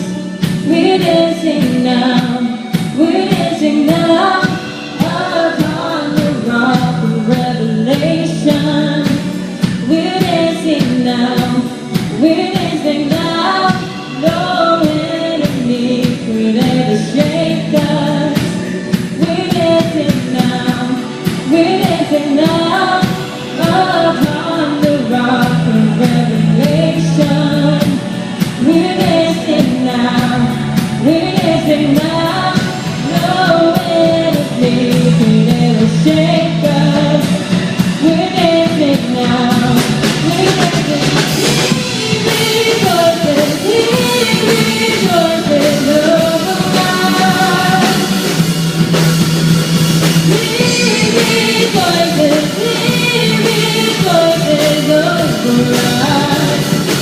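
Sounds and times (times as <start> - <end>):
voices singing: 0.0 - 48.9, 49.8 - 57.0
steady drum beat: 0.0 - 57.0
worship band playing: 0.0 - 57.0.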